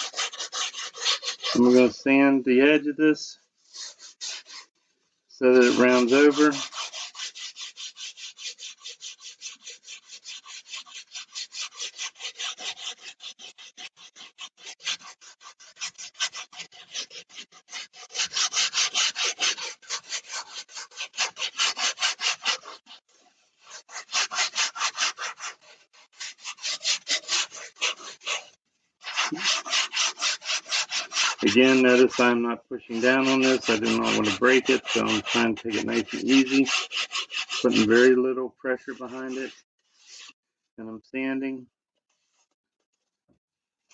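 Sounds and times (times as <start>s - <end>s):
sandpaper rubbing on foam: 0.0s - 1.9s, 3.6s - 4.7s, 5.4s - 40.4s.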